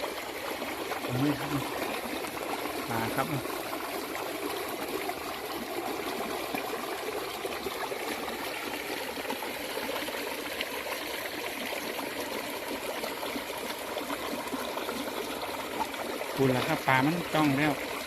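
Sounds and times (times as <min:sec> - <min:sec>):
rainwater runoff rushing: 0:00.0 - 0:18.0.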